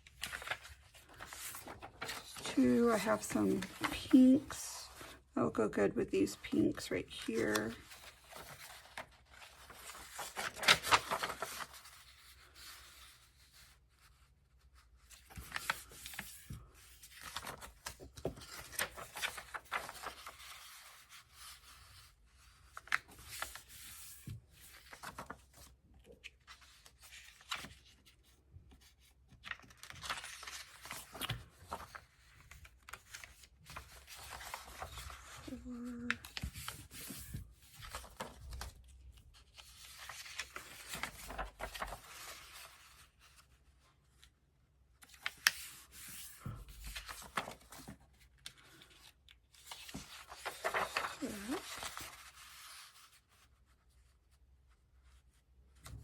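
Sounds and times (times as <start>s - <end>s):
paper rustling and sliding: 0.0s - 5.2s, 6.3s - 44.3s, 45.0s - 54.1s.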